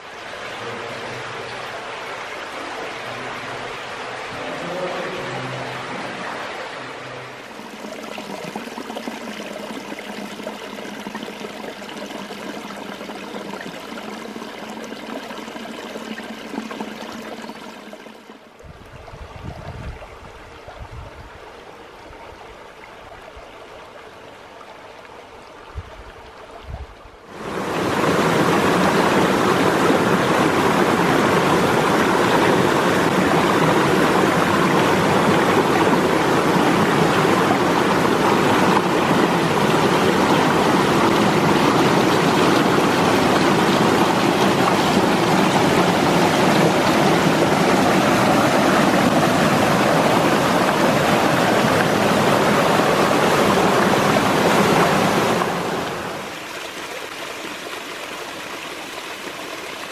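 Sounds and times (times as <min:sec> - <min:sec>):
stream rushing over rocks: 0:00.0 - 0:20.9, 0:27.3 - 0:59.9.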